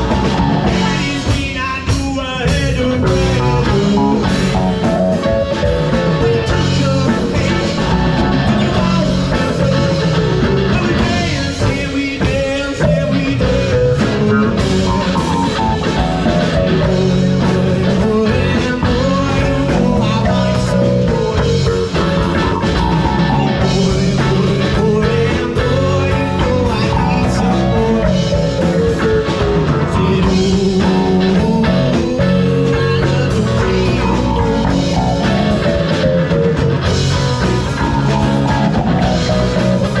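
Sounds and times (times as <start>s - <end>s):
folk rock band playing: 0.0s - 40.0s.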